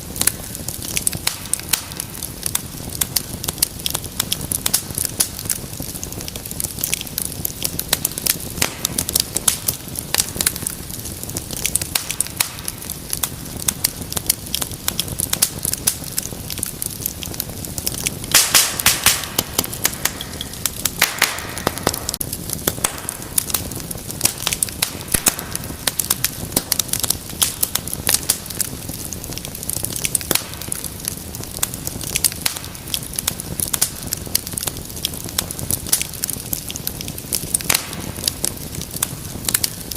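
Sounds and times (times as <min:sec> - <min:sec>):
soft rushing of flames: 0:00.0 - 0:39.9
wood fire crackling and popping: 0:00.0 - 0:39.9.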